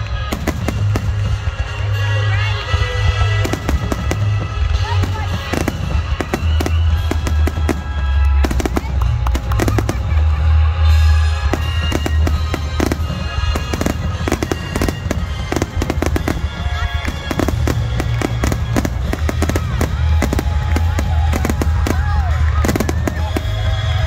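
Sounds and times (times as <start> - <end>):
firework bangs and crackles: 0.0 - 24.0.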